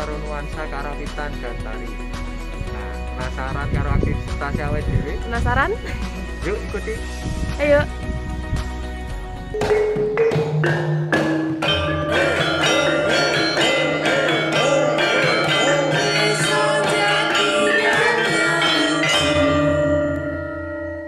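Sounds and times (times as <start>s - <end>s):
gamelan music: 0.0s - 21.0s.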